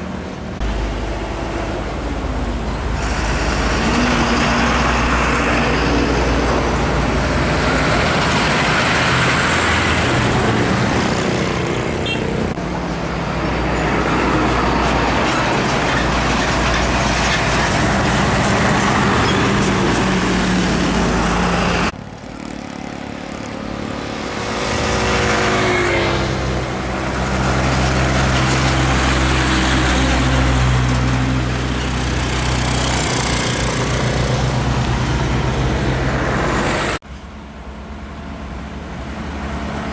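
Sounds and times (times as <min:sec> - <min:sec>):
diesel truck engines: 0:00.0 - 0:39.9
tyre and road noise: 0:00.0 - 0:39.9.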